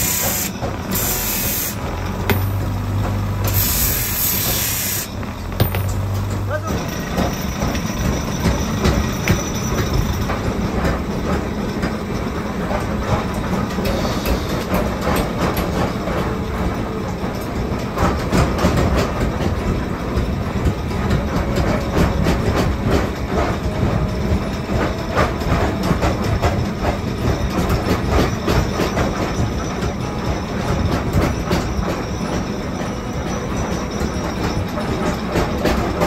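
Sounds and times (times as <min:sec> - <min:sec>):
machinery low rumble: 0:00.0 - 0:36.0
metallic clattering: 0:00.0 - 0:36.0.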